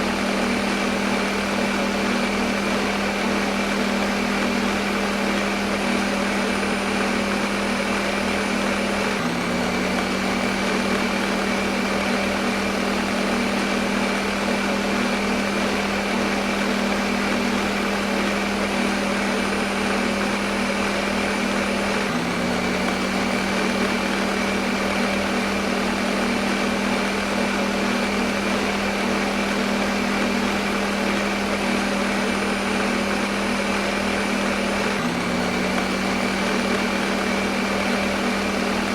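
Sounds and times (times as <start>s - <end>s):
blender motor whirring: 0.0s - 38.9s.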